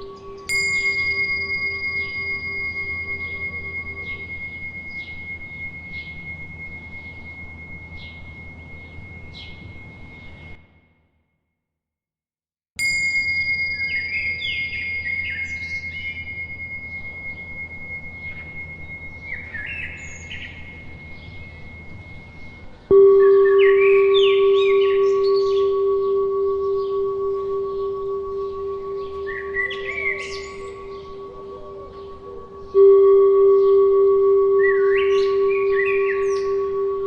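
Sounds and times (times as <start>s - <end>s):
birds chirping: 0.0s - 10.6s, 13.7s - 37.0s
bell ringing: 0.0s - 10.8s, 12.8s - 37.0s
high bell struck: 0.0s - 10.9s, 12.8s - 37.0s
low-pitched bell tone: 0.0s - 11.2s, 12.8s - 37.0s.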